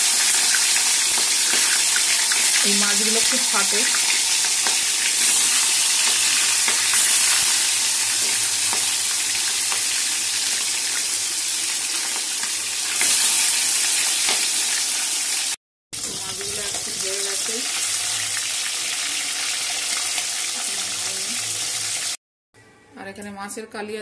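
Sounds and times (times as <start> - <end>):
fish sizzling in hot oil: 0.0 - 22.2.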